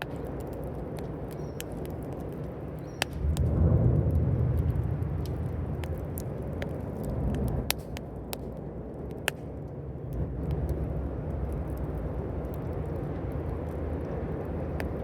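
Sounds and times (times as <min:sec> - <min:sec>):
fire rumbling: 0:00.0 - 0:15.0
wood popping and crackling: 0:00.0 - 0:15.0.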